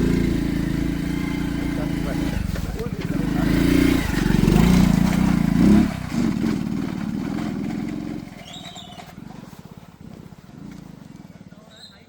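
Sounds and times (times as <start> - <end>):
engine running: 0.0 - 11.6.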